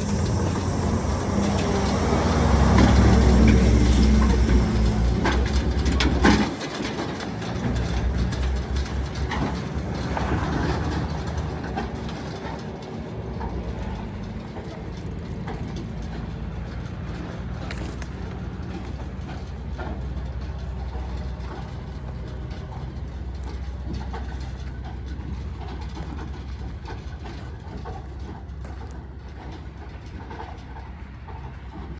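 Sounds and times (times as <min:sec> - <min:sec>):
diesel vehicle rumbling: 0:00.0 - 0:31.9
mechanical rattles and clicks: 0:00.0 - 0:31.9.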